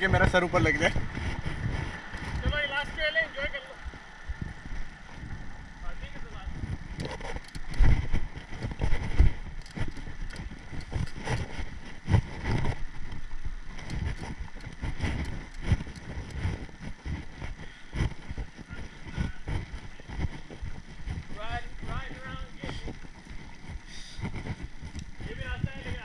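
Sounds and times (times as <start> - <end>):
tyres rolling on dirt: 0.0 - 26.0
wind noise: 0.0 - 26.0.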